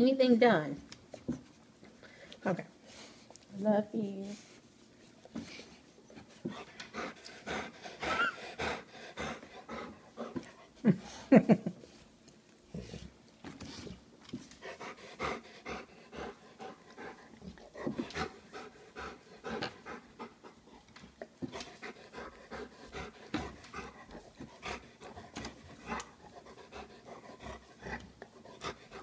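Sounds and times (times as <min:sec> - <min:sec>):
dog panting: 0:04.4 - 0:11.3, 0:12.7 - 0:29.0.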